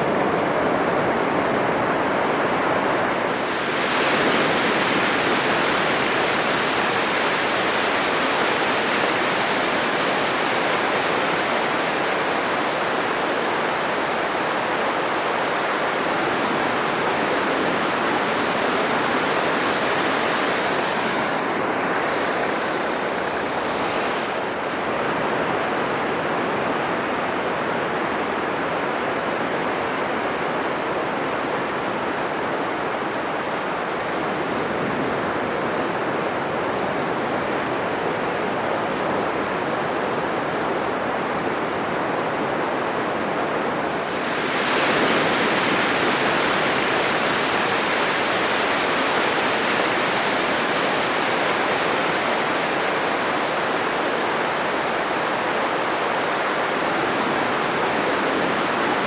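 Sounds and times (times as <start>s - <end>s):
surf waves on beach: 0.0s - 59.0s.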